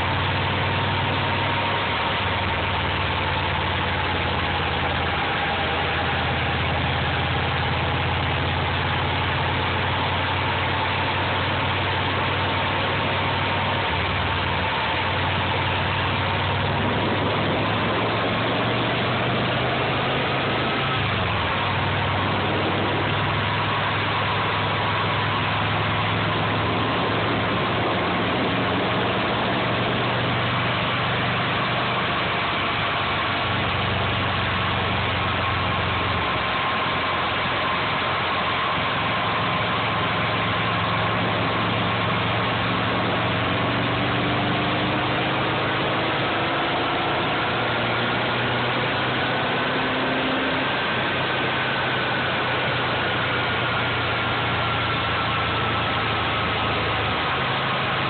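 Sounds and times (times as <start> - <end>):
car engine idling: 0.0 - 58.0
constant rushing noise: 0.0 - 58.0
low hum: 0.0 - 58.0.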